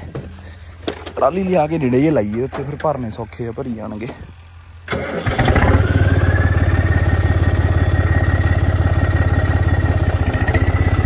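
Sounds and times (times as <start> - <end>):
diesel tractor engine starting: 0.0 - 11.0
engine whine: 0.0 - 11.0.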